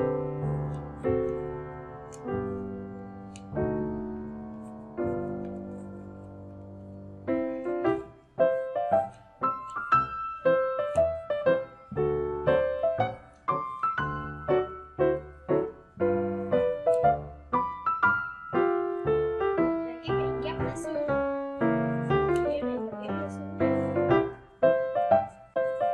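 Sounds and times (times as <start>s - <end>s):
piano music: 0.0s - 25.9s.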